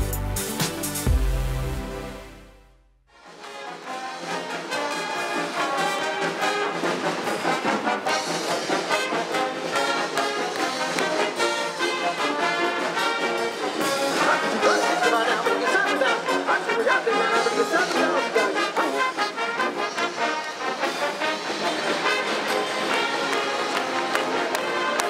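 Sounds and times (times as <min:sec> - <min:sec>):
brass band playing upbeat tune: 0:03.2 - 0:25.0.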